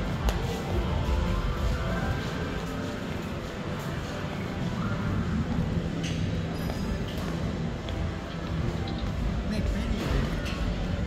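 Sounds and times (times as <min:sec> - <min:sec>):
faint background music: 0:00.0 - 0:11.0
murmur of hall: 0:00.0 - 0:11.0.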